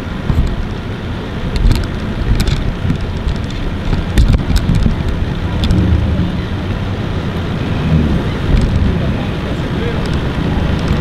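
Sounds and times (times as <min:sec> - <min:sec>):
boat engines idling: 0:00.0 - 0:11.0
wind buffeting microphone: 0:00.0 - 0:11.0.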